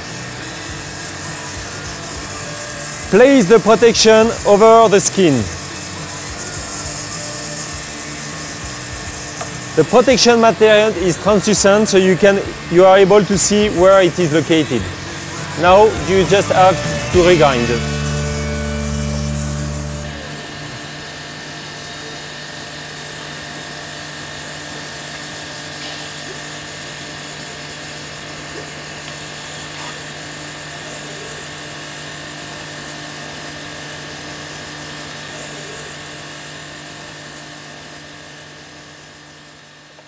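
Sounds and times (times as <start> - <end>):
grinding machine whining: 0.0 - 39.9.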